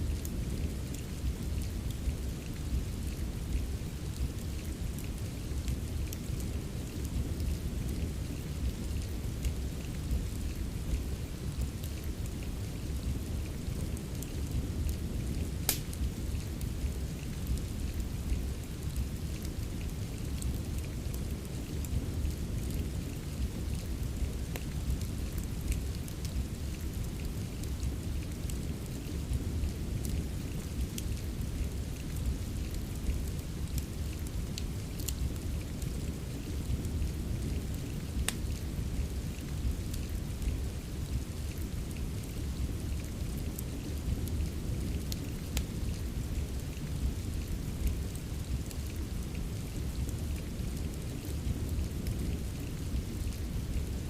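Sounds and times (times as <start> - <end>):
fire crackling: 0.0 - 54.0
rain hiss: 0.0 - 54.0.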